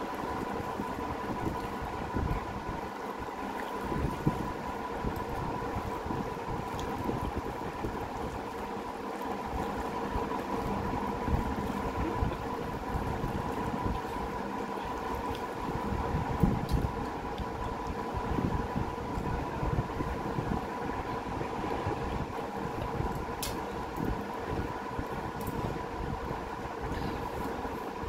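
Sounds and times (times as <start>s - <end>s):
mechanical hum with high whine: 0.0s - 28.0s.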